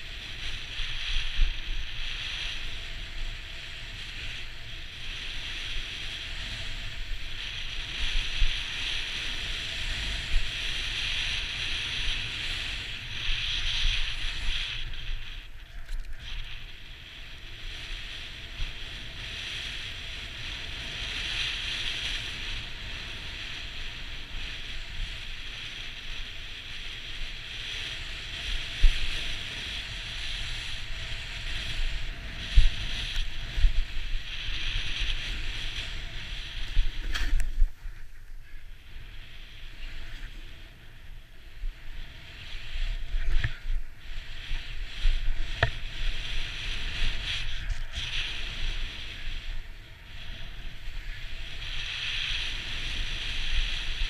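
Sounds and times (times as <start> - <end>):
snowboard hissing on snow: 0.0 - 54.0
wind on microphone: 0.0 - 54.0.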